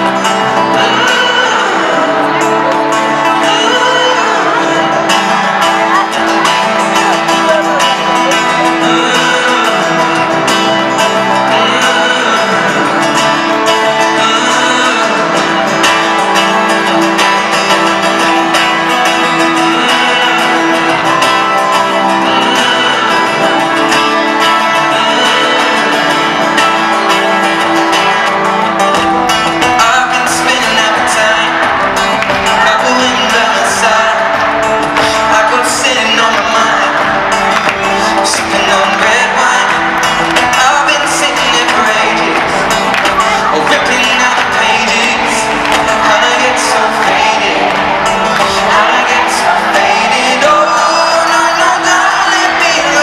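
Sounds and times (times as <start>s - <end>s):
male singer through arena speakers: 0.0s - 53.0s
strummed acoustic guitar: 0.0s - 53.0s.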